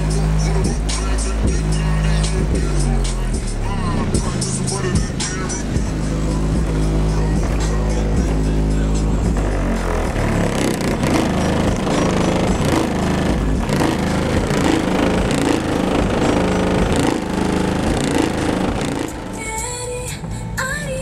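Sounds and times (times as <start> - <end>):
bass-heavy car stereo music: 0.0 - 21.0.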